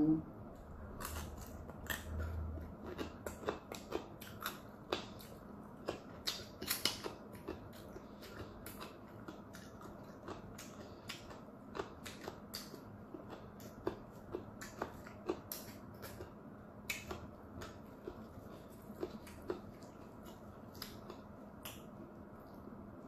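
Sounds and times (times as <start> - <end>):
close chewing mouth clicks: 1.0 - 21.9.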